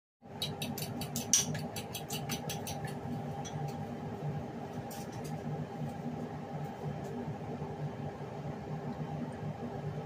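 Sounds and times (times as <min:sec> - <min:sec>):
steady low hum: 0:00.2 - 0:10.0.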